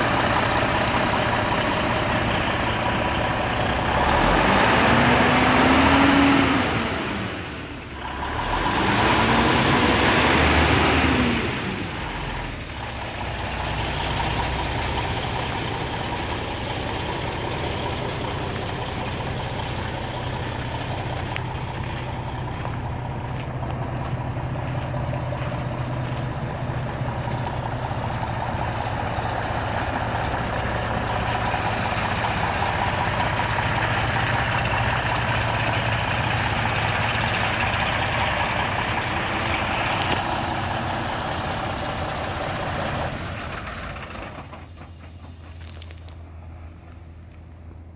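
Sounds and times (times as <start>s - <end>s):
diesel truck engine revving: 0.0s - 46.8s.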